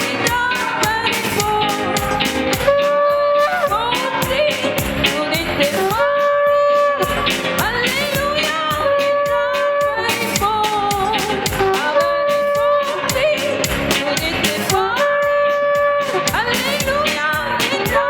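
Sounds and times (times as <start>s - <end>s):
music with sliding melody: 0.0s - 18.0s.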